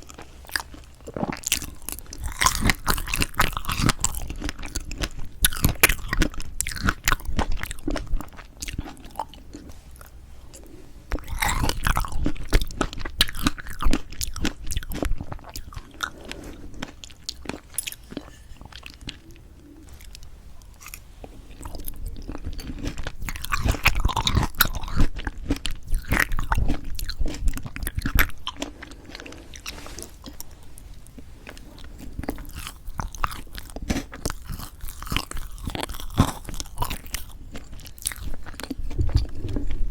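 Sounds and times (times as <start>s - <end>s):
close chewing of cake: 0.0s - 39.9s.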